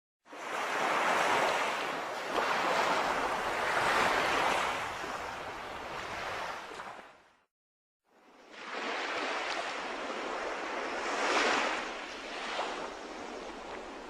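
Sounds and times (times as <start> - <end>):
sea waves washing onto shore: 0.3 - 7.0, 8.5 - 14.0.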